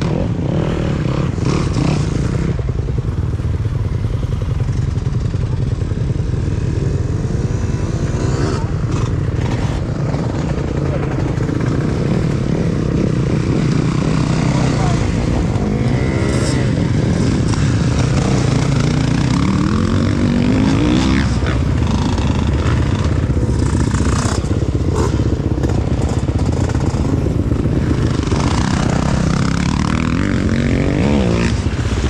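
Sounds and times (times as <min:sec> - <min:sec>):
dirt bike engine revving: 0:00.0 - 0:03.0, 0:04.2 - 0:32.0
more dirt bikes running: 0:00.0 - 0:32.0.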